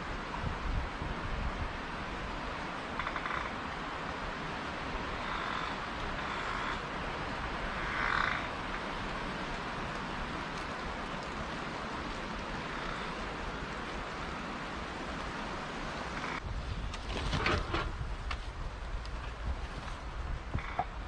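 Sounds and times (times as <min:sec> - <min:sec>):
wind through pine trees: 0:00.0 - 0:21.0.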